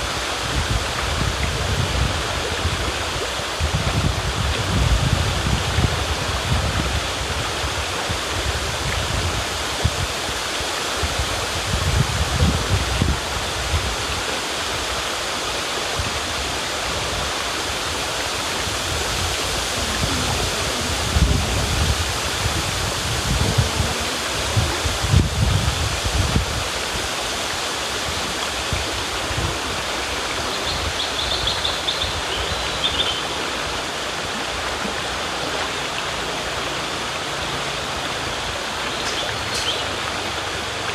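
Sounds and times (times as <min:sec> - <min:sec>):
river rushing: 0:00.0 - 0:40.9.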